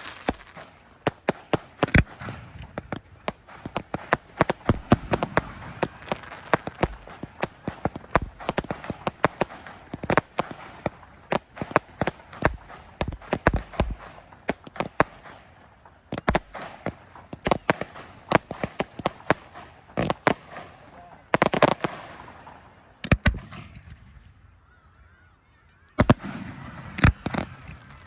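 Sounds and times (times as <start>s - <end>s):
fireworks crackle: 0.0s - 24.2s, 26.0s - 28.0s
fireworks bangs: 0.0s - 24.6s, 26.0s - 28.0s.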